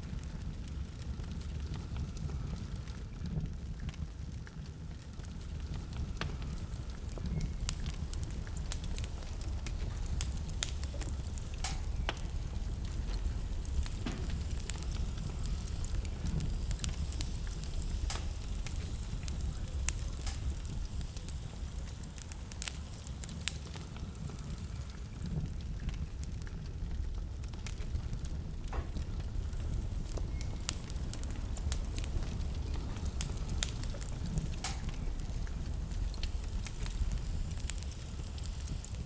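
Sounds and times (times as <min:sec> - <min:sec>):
fire crackling and popping: 0:00.0 - 0:39.0
low rumble of flames: 0:00.0 - 0:39.0.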